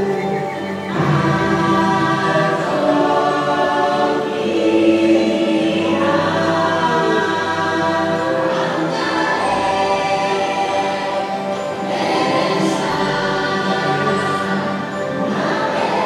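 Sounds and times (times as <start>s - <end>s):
background music: 0.0s - 16.0s
choir singing long notes: 0.0s - 16.0s.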